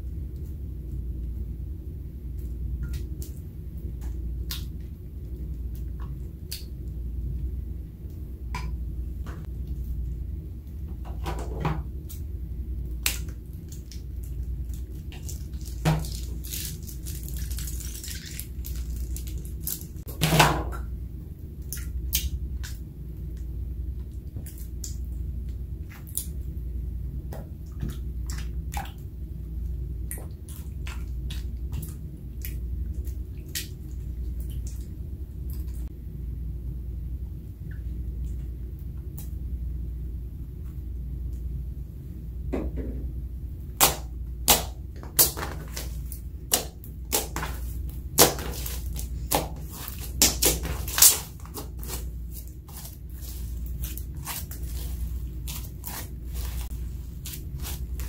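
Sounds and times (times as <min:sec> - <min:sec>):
spatula stirring squelchy slime: 0:00.0 - 0:35.9, 0:43.8 - 0:58.0.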